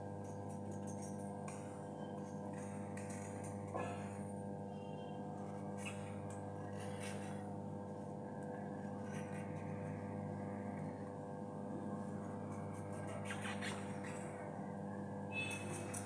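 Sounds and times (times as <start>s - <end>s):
steady hum with overtones: 0.0s - 16.0s.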